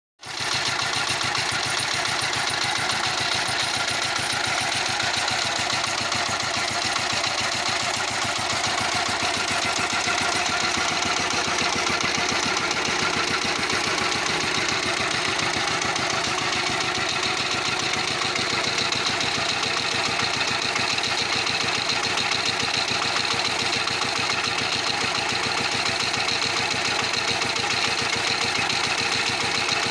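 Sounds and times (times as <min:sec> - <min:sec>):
walk-behind tractor engine running: 0:00.2 - 0:29.9.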